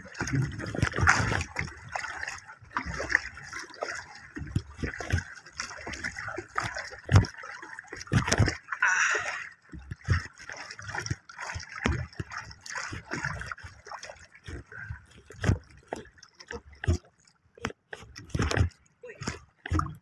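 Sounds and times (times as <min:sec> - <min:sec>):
water slapping against canoe: 0:00.0 - 0:20.0.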